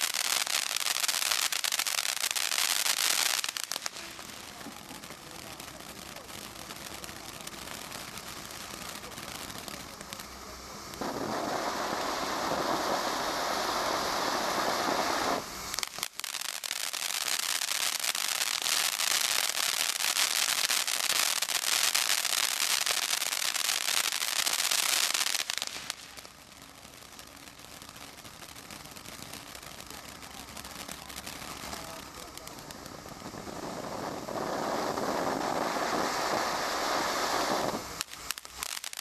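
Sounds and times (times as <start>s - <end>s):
firework crackling: 0.0s - 39.0s
firework fountains hissing: 0.0s - 39.0s.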